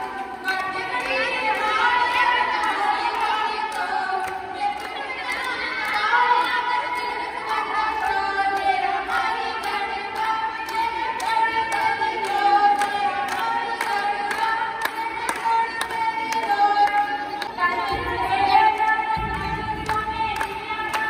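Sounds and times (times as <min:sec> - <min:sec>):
group clapping on a beat: 0:00.0 - 0:21.0
woman singing into a microphone: 0:00.0 - 0:21.0
women singing: 0:00.0 - 0:21.0.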